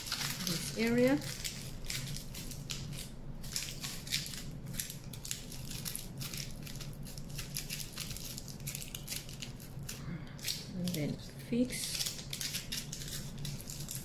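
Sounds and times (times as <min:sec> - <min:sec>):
foil crinkling: 0:00.0 - 0:14.0.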